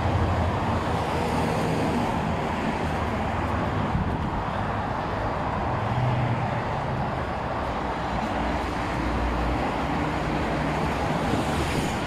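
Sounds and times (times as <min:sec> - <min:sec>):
passing traffic: 0:00.0 - 0:12.0.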